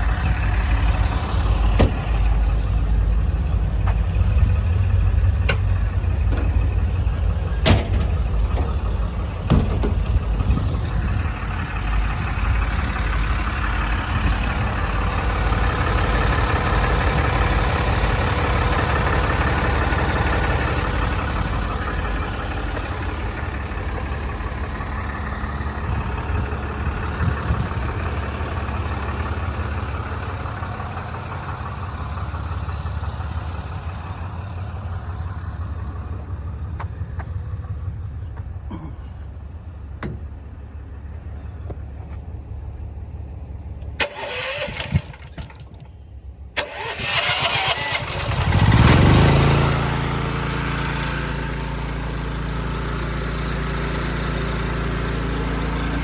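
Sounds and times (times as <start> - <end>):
engine starting and idling: 0.0 - 36.0, 43.8 - 56.0
engine running: 0.0 - 56.0.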